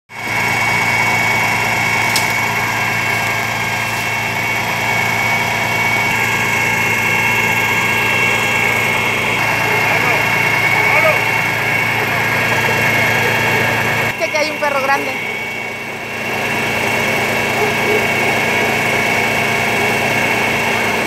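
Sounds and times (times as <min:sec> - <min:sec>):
fire engine pump running: 0:00.1 - 0:21.0
high-pitched whine: 0:00.6 - 0:21.0.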